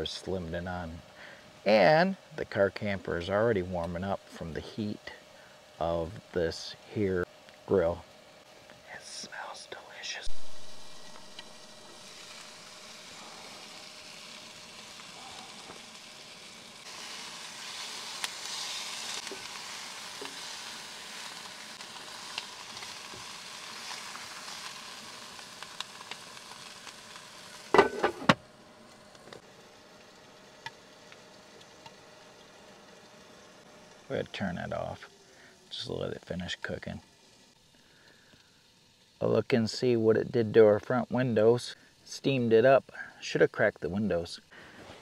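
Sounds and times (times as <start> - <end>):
meat and peppers sizzling: 0.0 - 45.0.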